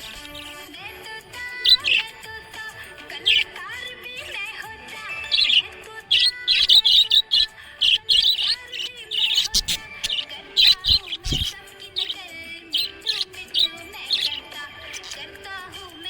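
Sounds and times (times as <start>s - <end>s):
background music: 0.0s - 16.0s
budgies chirping: 0.0s - 16.0s.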